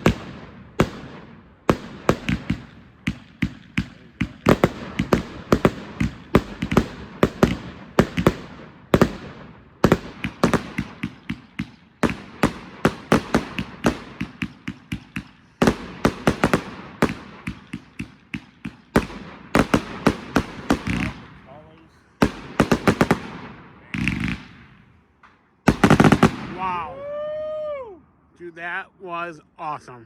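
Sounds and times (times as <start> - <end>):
fireworks cake firing loud reports: 0.0 - 25.0, 25.6 - 27.9.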